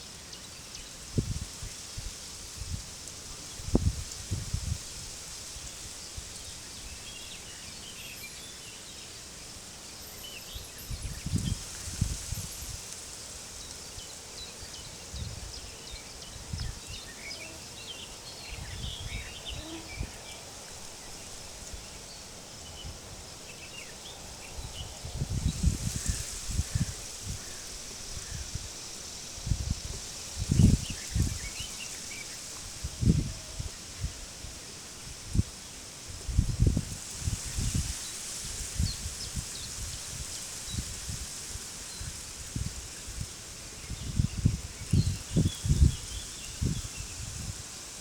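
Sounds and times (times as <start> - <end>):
wind gusts: 0.7 - 48.0.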